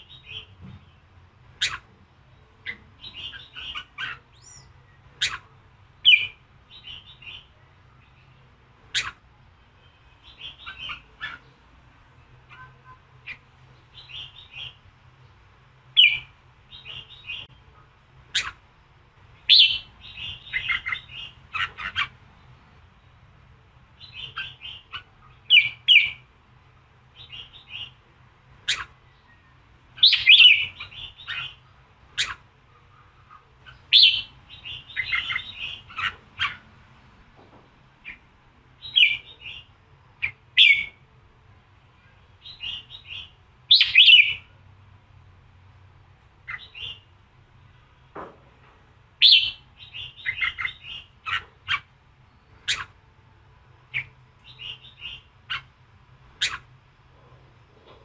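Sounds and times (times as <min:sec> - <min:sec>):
bird singing chirpy phrases: 0:00.0 - 0:26.3, 0:27.1 - 0:36.8, 0:38.0 - 0:41.1, 0:41.8 - 0:44.6, 0:46.4 - 0:48.0, 0:49.2 - 0:53.0, 0:53.8 - 0:56.7.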